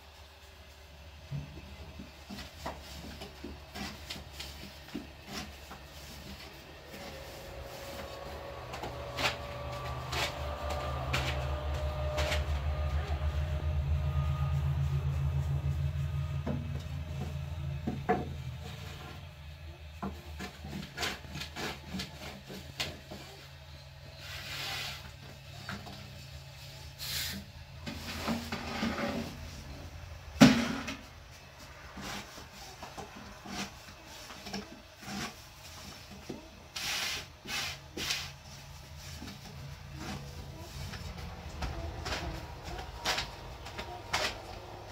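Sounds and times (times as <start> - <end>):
rolling pin rubbing dough: 1.3 - 27.0, 31.5 - 44.9.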